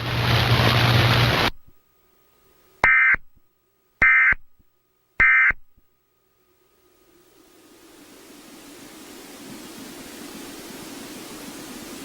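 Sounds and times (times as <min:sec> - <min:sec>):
static hiss: 0:00.0 - 0:03.4, 0:04.0 - 0:12.0.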